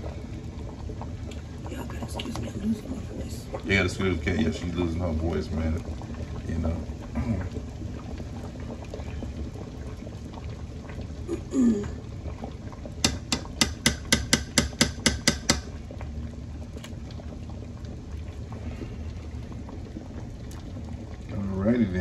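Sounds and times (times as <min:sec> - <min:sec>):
broth boiling in pot: 0:00.0 - 0:22.0.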